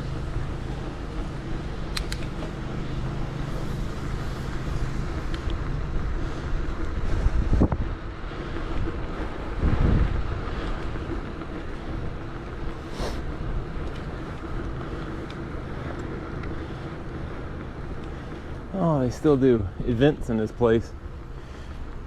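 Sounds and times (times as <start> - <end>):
bicycle road noise: 0.0 - 22.0
wind buffeting microphone: 0.0 - 22.0.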